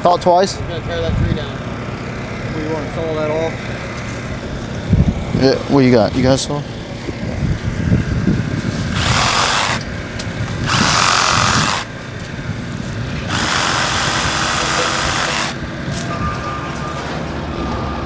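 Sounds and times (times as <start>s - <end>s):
power saw cutting branches: 1.8s - 17.7s.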